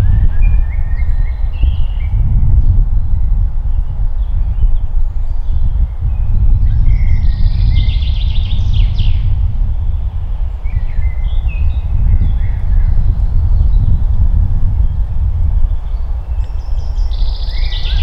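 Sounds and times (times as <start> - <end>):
loud steady low rumble: 0.0 - 18.0
songbirds calling: 0.0 - 18.0.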